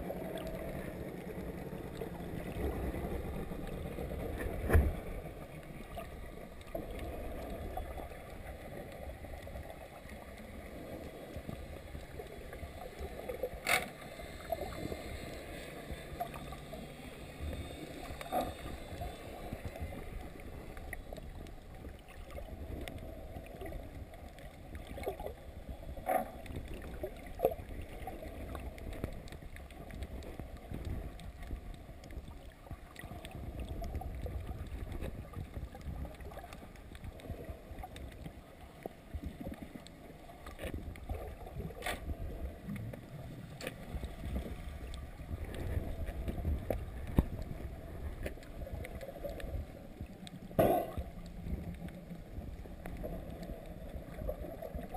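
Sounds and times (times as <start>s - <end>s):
muffled underwater water movement: 0.0s - 54.9s.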